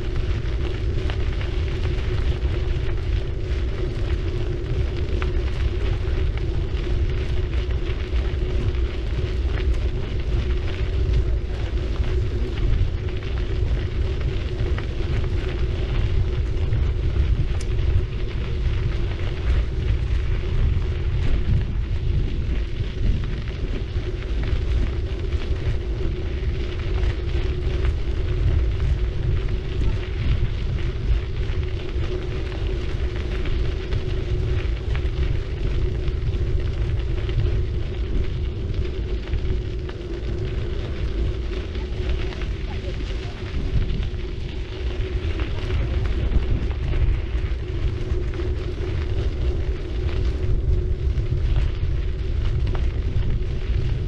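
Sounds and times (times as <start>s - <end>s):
bicycle tyres rolling: 0.0s - 54.0s
wind rumble on microphone: 0.0s - 54.0s.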